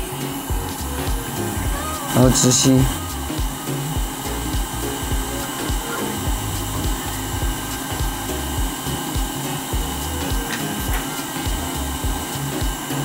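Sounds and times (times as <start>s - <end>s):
hot-air gun hissing: 0.0s - 13.0s.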